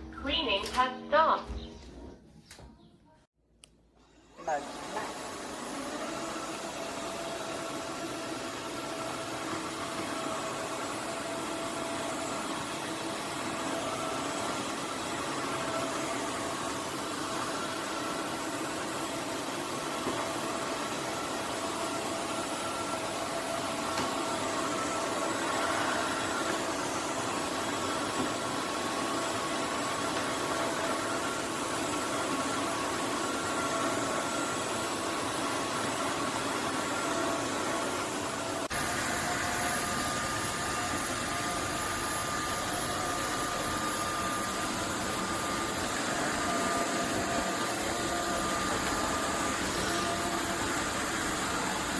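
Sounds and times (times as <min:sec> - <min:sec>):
vacuum motor whine: 0:04.3 - 0:51.9.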